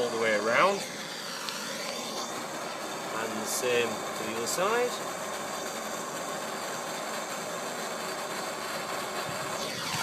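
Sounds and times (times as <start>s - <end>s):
blowtorch flame hissing: 0.0s - 10.0s.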